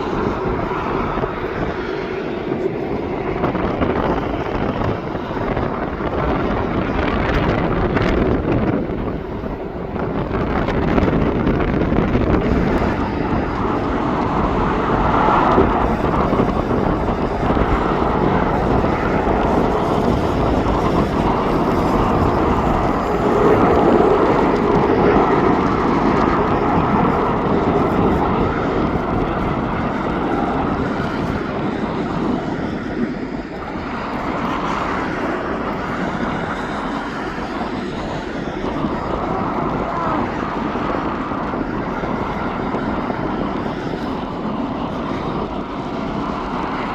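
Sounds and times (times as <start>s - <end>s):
jet engines roaring: 0.0s - 46.9s.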